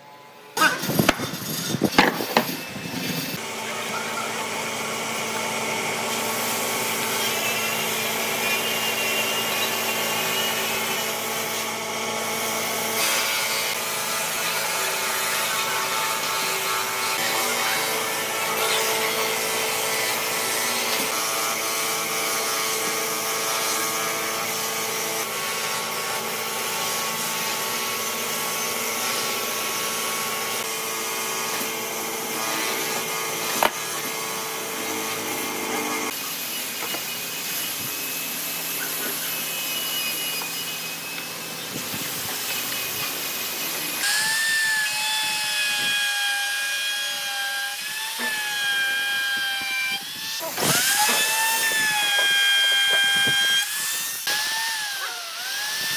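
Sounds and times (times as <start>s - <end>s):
electric router whining: 0.6s - 55.9s.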